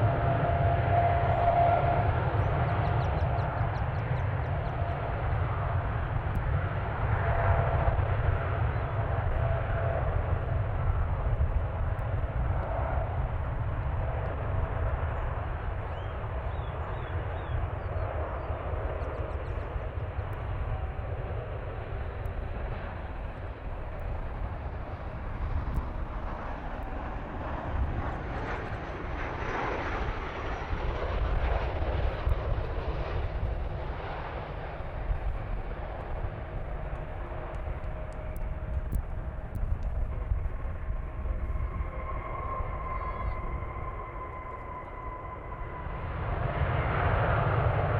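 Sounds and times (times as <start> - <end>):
faint high whine: 0.0 - 47.4
jet airliner engines rumbling: 0.0 - 47.9
wind buffeting microphone: 0.0 - 47.9.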